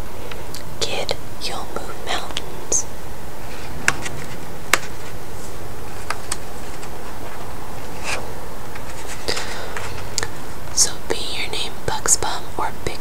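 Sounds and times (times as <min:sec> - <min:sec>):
steady recording hiss: 0:00.0 - 0:13.0.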